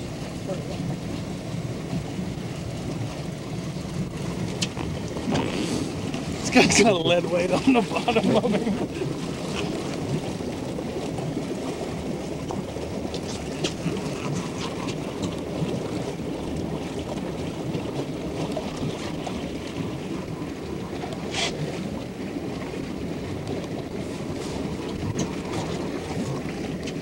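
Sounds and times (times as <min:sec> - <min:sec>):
boat low rumble: 0:00.0 - 0:27.0.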